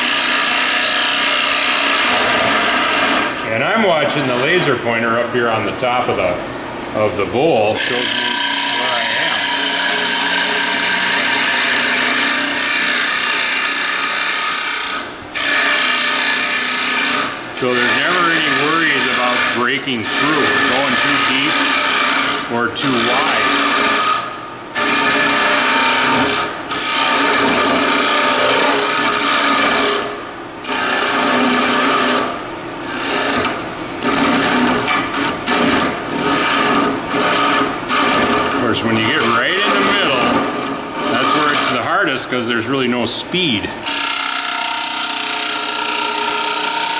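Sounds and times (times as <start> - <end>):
lathe tool scraping wood: 0.0 - 4.7, 7.6 - 42.8, 43.4 - 46.9
lathe hum: 0.0 - 46.9.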